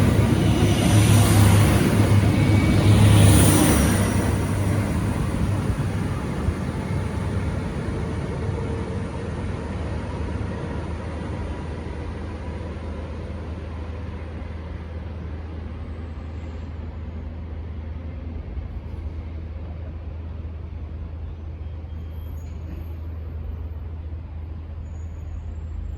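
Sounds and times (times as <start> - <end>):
diesel railcar rumble: 0.0 - 25.9.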